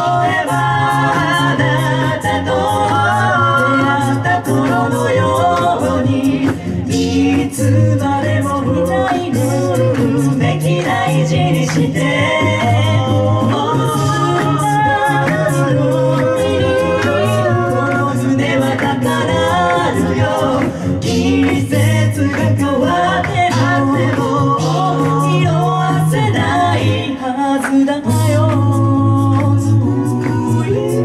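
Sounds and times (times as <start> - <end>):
sung bass line: 0.0 - 27.2, 28.1 - 31.0
a cappella group singing: 0.0 - 31.0
vocal percussion ticks: 0.0 - 31.0.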